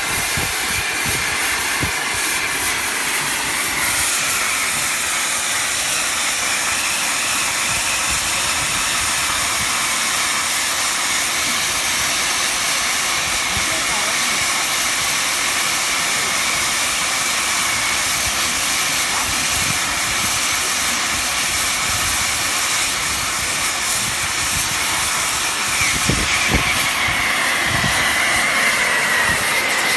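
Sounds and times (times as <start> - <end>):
cutting torch hissing: 0.0 - 29.9.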